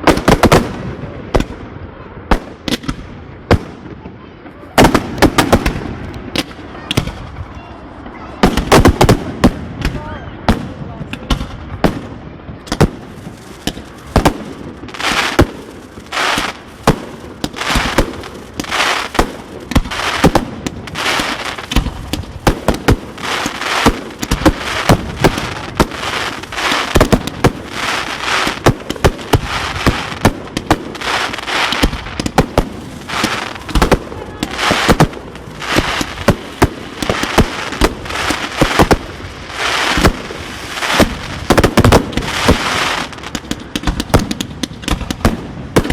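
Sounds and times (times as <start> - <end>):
fireworks crackling and hissing: 0.0 - 45.9.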